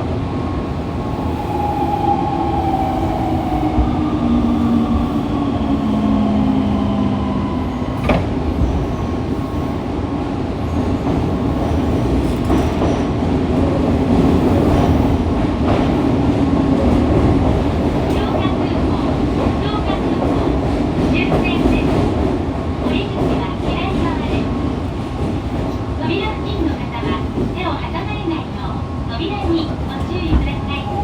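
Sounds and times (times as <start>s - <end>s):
wheels rumbling on rail: 0.0s - 31.0s.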